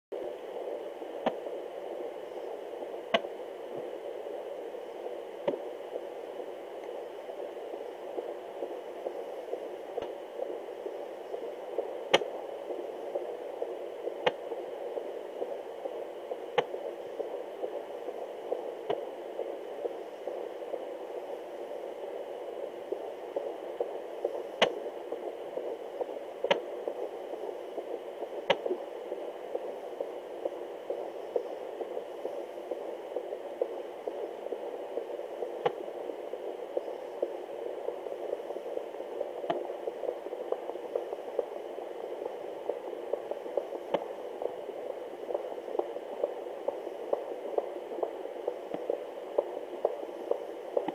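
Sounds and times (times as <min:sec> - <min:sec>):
doppler heartbeat pulsing hiss: 0:00.1 - 0:50.9.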